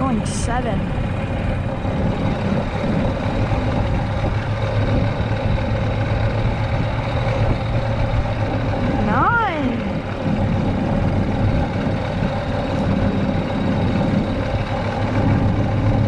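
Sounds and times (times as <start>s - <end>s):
golf cart running: 0.0s - 16.0s.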